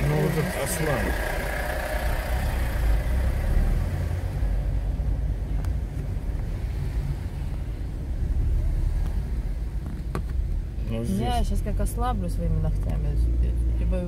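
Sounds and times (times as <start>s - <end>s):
car engine and cabin rumble: 0.0s - 14.0s.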